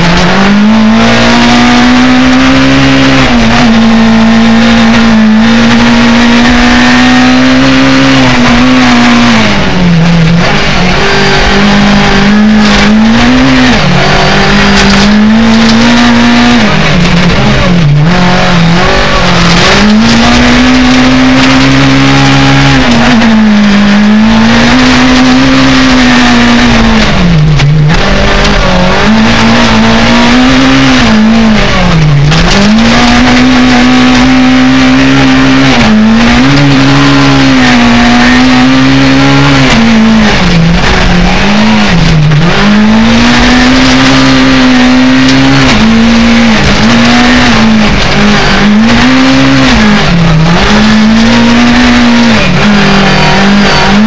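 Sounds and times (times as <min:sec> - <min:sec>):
rally car engine at high revs: 0:00.0 - 0:54.0.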